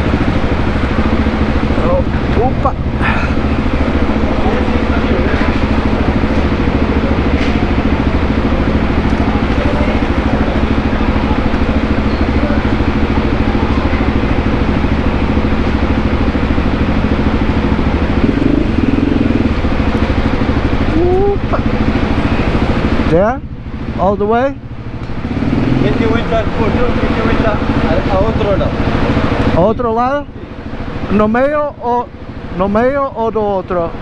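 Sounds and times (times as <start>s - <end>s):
motorcycle engine running at low revs: 0.0s - 34.0s.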